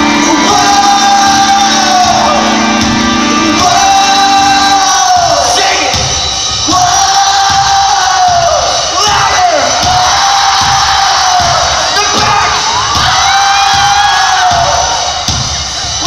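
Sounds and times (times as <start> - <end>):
live pop-punk band: 0.0 - 16.0.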